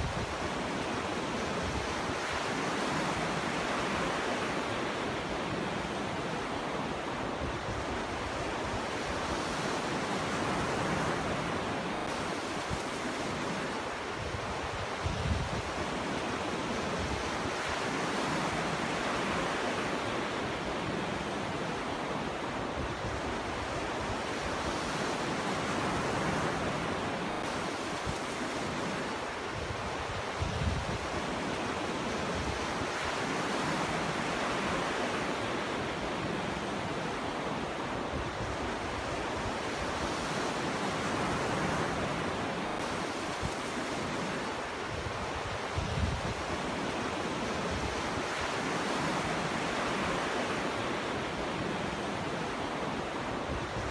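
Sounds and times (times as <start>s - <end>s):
wind rumble on microphone: 0.0s - 5.9s, 7.1s - 19.9s, 22.4s - 36.6s, 37.7s - 53.9s
ocean waves breaking: 0.0s - 53.9s.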